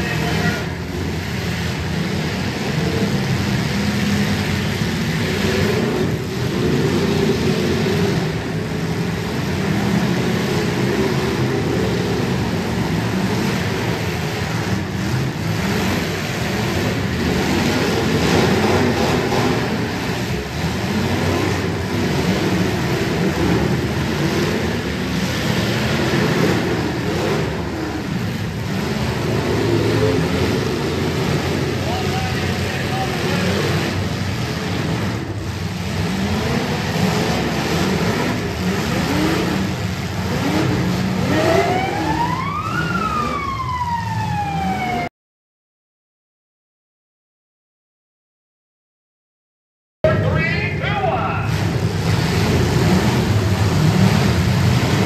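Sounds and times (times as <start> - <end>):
car engines revving: 0.0 - 45.1, 50.1 - 55.0.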